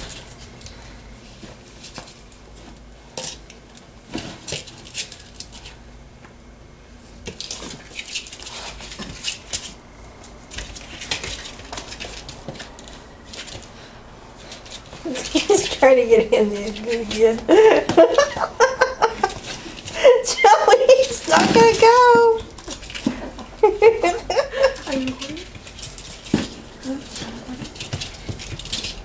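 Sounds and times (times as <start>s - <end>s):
ferret scrabbling with toy: 1.3s - 5.8s, 7.2s - 29.0s.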